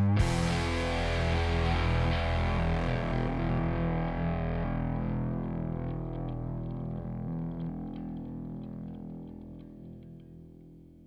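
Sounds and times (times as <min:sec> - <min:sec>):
rock music with electric guitar: 0:00.0 - 0:10.9.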